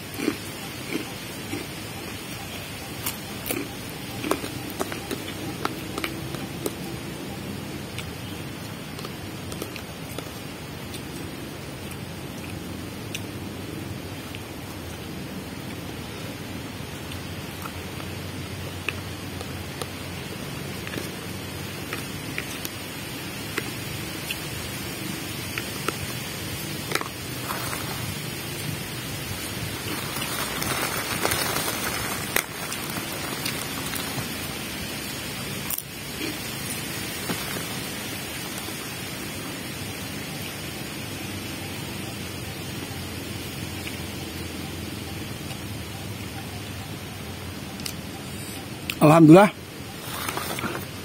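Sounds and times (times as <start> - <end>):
steady background hiss: 0.0 - 51.0.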